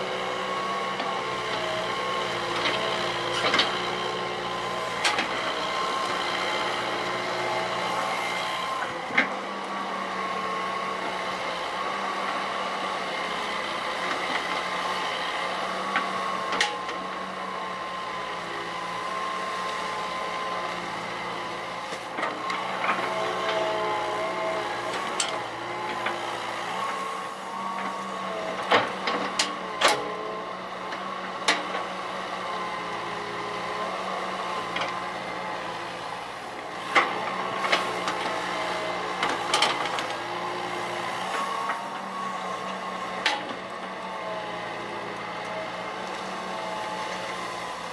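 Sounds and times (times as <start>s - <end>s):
excavator diesel engine working: 0.0s - 47.9s.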